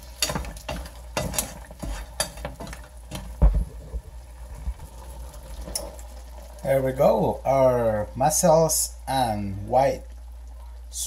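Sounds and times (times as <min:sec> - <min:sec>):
seafood sizzling in a frying pan: 0:00.0 - 0:11.0.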